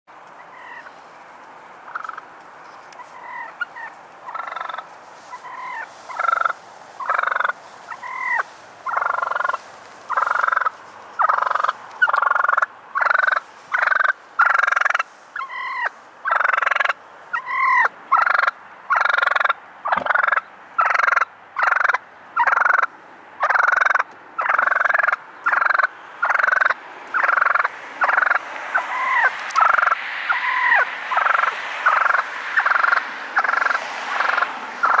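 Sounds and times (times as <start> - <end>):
turkey gobbling: 0.5 - 1.0, 1.9 - 2.3, 3.0 - 35.0.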